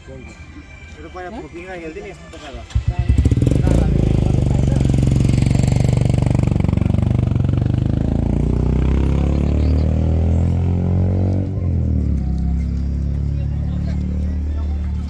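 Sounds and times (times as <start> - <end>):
vehicle engine running: 2.9 - 15.0.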